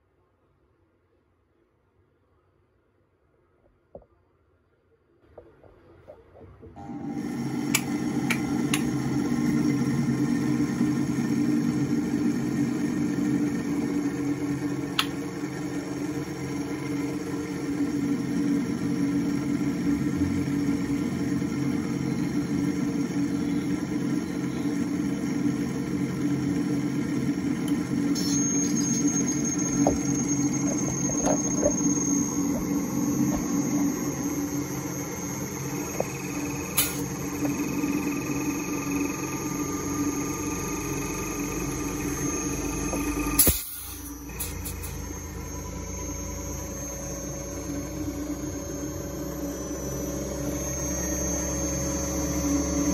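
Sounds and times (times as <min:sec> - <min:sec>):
compressor humming: 0:06.6 - 0:52.9
faint high whine: 0:06.8 - 0:52.9.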